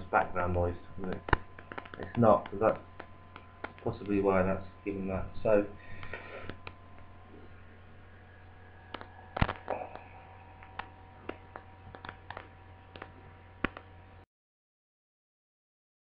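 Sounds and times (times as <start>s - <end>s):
electrical hum: 0.0s - 14.3s.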